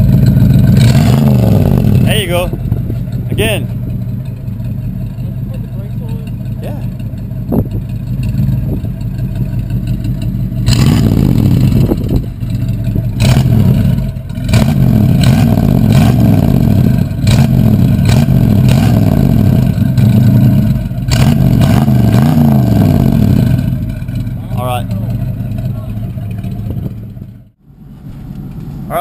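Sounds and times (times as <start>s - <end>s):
engine idling and revving: 0.0s - 29.0s.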